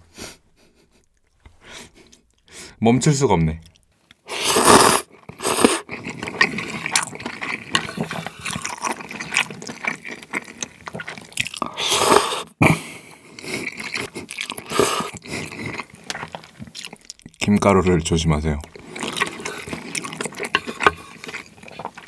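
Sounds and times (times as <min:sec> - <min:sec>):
slurping and wet chewing: 0:03.7 - 0:22.0.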